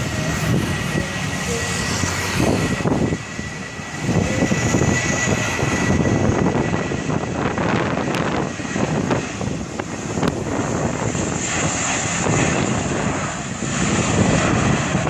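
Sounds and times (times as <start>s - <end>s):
jet engines high whine: 0.0s - 15.0s
low rumble of takeoff roll: 0.0s - 15.0s.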